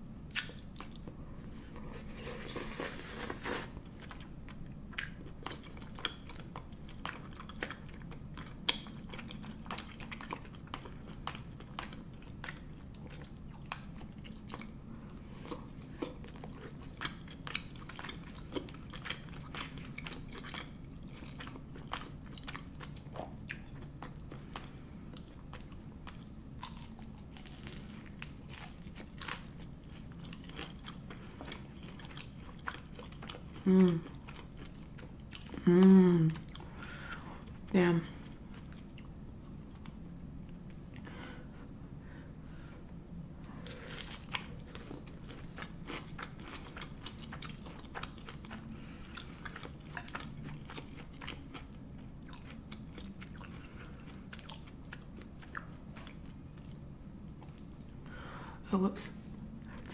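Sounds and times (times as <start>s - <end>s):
steady low hum: 0.0s - 59.9s
close chewing with mouth clicks: 0.3s - 37.6s, 43.6s - 56.8s.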